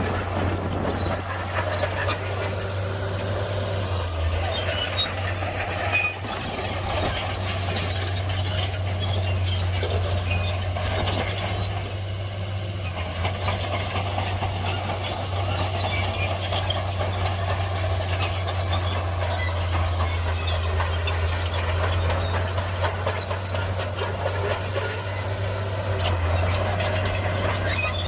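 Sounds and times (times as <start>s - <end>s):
metallic clanking and rattling: 0.0s - 12.0s, 12.9s - 28.0s
bulldozer diesel engine drone: 0.0s - 28.0s.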